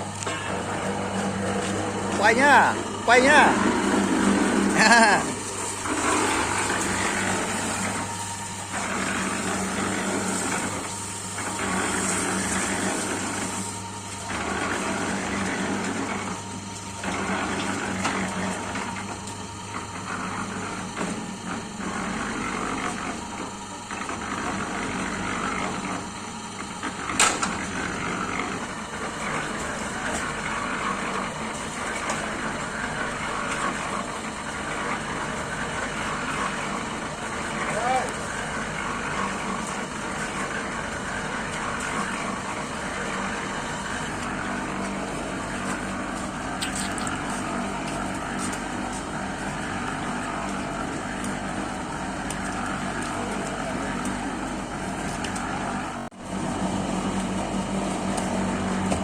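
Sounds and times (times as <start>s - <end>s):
concrete mixer motor humming: 0.0s - 59.0s.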